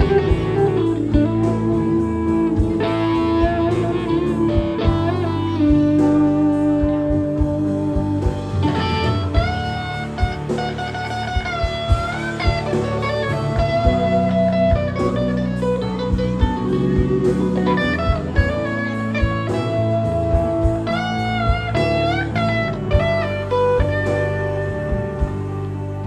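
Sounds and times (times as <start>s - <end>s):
bass: 0.0s - 26.0s
lead guitar melody: 0.0s - 26.0s
steady drum beat: 0.0s - 26.0s.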